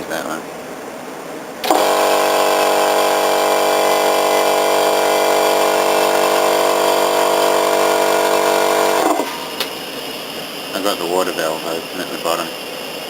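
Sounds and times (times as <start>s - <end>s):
steady hiss: 0.0s - 13.0s
air compressor humming: 1.6s - 13.0s.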